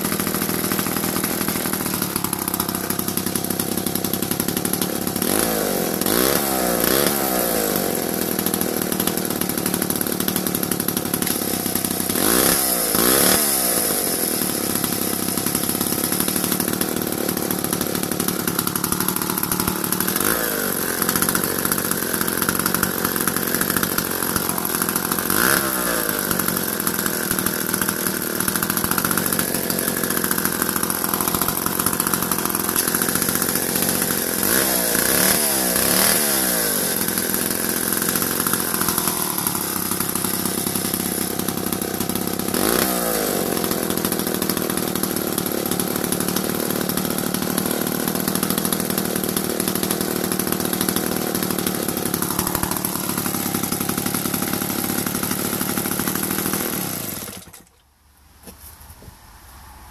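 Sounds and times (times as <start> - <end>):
chainsaw engine running: 0.0 - 57.8
chainsaw throttle revs: 0.0 - 57.8.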